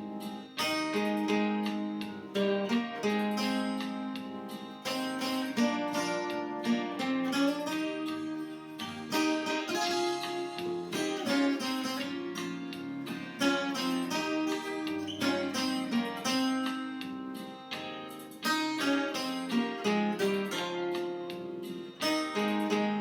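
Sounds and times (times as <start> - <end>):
plucked guitar melody: 0.0 - 23.0.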